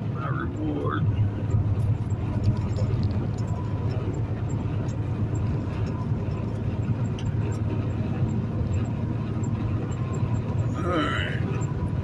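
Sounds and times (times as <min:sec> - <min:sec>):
road noise: 0:00.0 - 0:12.0
truck diesel engine drone: 0:00.0 - 0:12.0.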